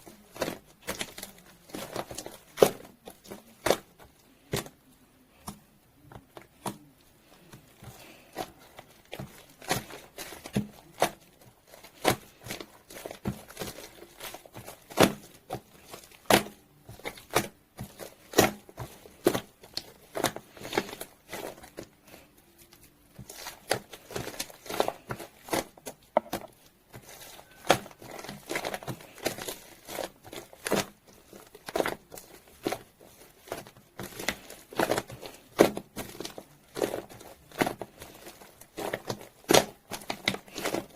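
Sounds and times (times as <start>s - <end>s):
slime squishing with sticky pops: 0.0s - 40.9s.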